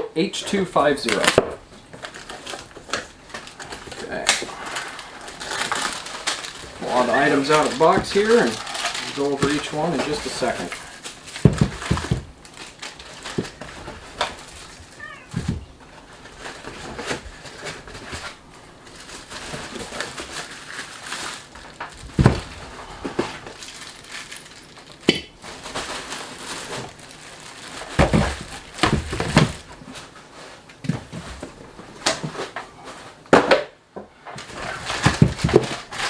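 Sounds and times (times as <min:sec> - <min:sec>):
packaging rustling: 0:00.5 - 0:33.2, 0:34.3 - 0:36.0.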